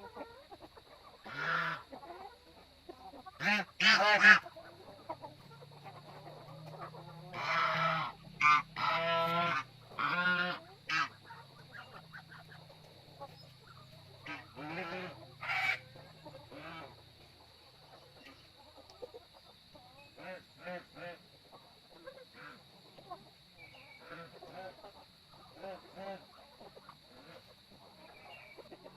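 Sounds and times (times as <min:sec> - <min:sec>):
farm fowl honking calls: 0:00.0 - 0:28.9.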